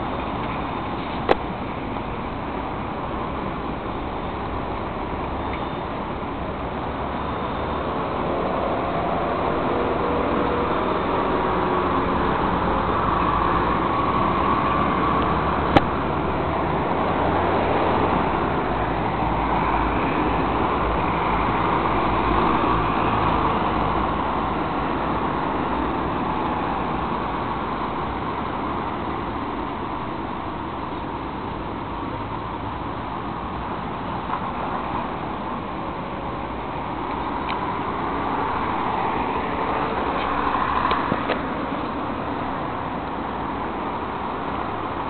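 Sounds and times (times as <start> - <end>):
cars passing on street: 0.0 - 45.0.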